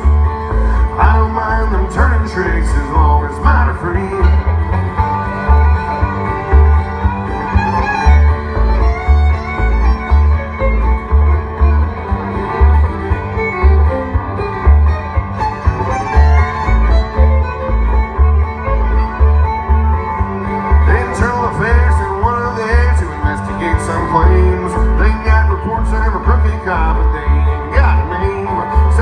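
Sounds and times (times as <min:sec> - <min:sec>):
bluegrass band playing: 0:00.0 - 0:29.0
fiddle lead: 0:00.0 - 0:29.0
upright bass steady notes: 0:00.0 - 0:29.0.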